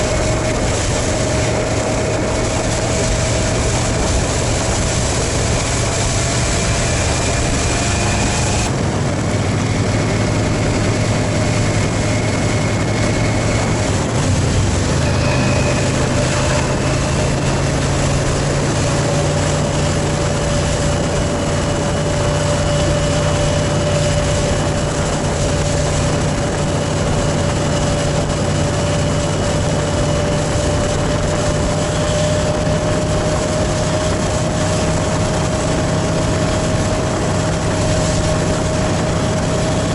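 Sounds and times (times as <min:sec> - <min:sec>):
constant rushing hiss: 0:00.0 - 0:08.7, 0:09.6 - 0:39.9
motorcycle engine running: 0:00.0 - 0:39.9.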